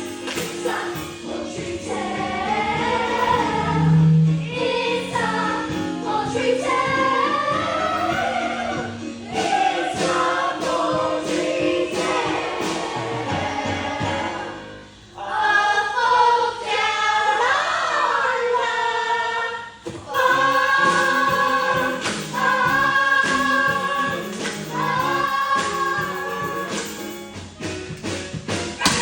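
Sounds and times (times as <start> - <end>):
chorus of voices singing: 0.0 - 27.3.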